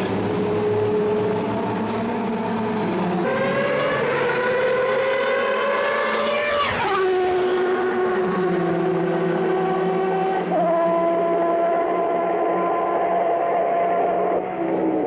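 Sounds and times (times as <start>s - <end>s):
racing car engine at high revs: 0.0s - 15.0s.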